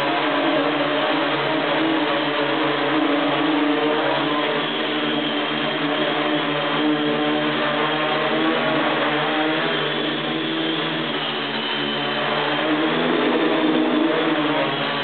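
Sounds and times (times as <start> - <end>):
drone motors and propellers whirring: 0.0 - 15.0.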